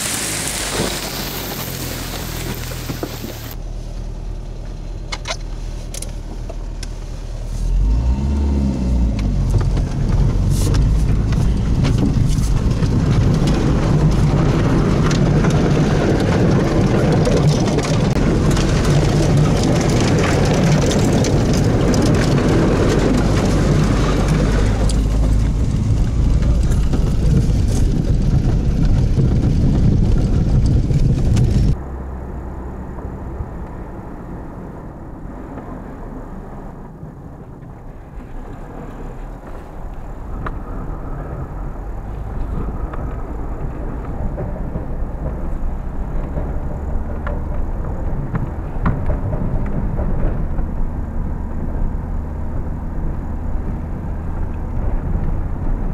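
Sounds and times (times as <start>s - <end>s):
car engine idling and revving: 0.0s - 55.9s
dry grass rushing along car: 0.0s - 55.9s
road drone: 0.0s - 55.9s.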